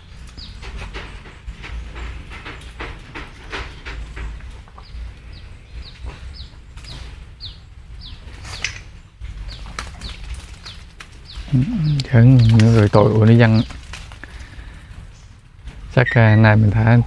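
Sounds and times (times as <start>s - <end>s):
bird chirping: 0.0s - 13.8s
steady low rumble: 0.0s - 17.0s.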